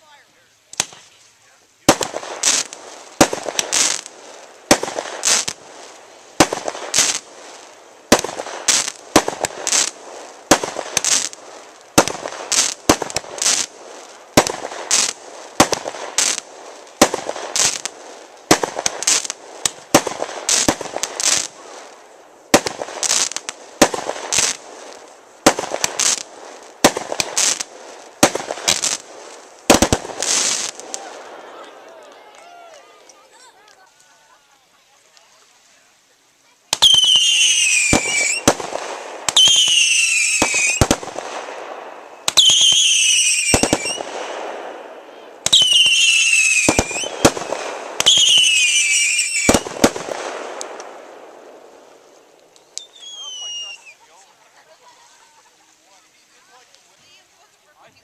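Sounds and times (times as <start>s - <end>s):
fireworks bangs: 0.0s - 58.0s
fireworks crackling hiss: 0.0s - 58.0s.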